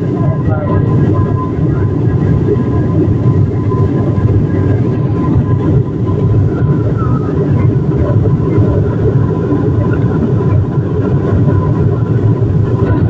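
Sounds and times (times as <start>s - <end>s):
engine rumble and rushing air: 0.0s - 13.0s
faint steady whine: 0.0s - 13.0s.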